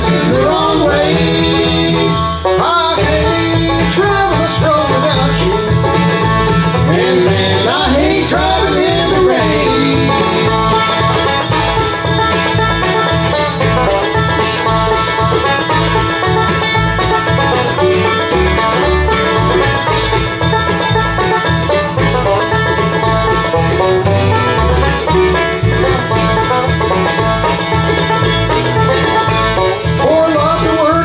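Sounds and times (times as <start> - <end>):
banjo: 0.0 - 31.0
bass: 0.0 - 31.0
dobro: 0.0 - 31.0
fiddle: 0.0 - 31.0
guitar: 0.0 - 31.0
mandolin: 0.0 - 31.0.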